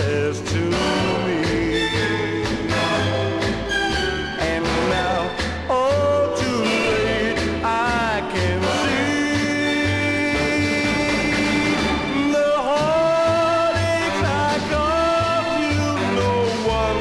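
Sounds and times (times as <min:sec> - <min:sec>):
pop song from vinyl record: 0:00.0 - 0:17.0.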